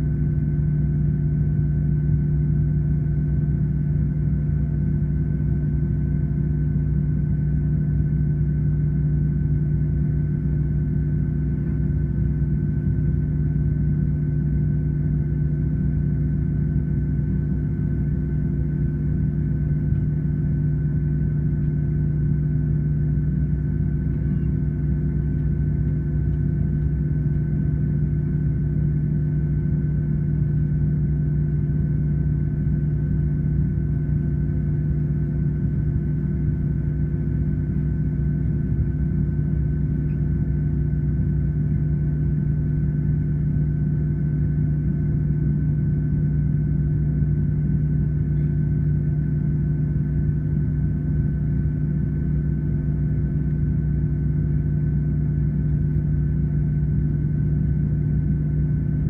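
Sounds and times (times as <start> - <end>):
faint high whine: 0.0 - 59.0
jet engines idling low drone: 0.0 - 59.0.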